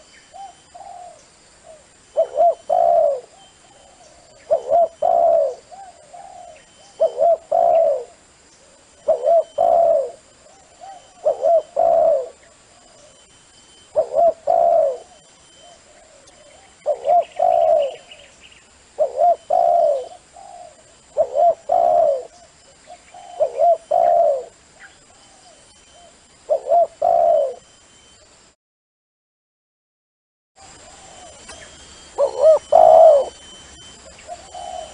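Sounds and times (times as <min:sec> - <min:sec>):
dove cooing: 0:00.0 - 0:18.4, 0:19.0 - 0:27.7, 0:30.6 - 0:34.9.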